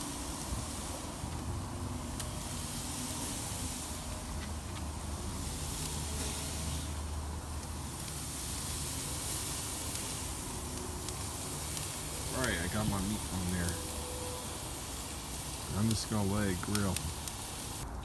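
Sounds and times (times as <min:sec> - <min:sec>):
meat sizzling on a grill: 0:00.0 - 0:17.8
fire pops: 0:00.0 - 0:18.0.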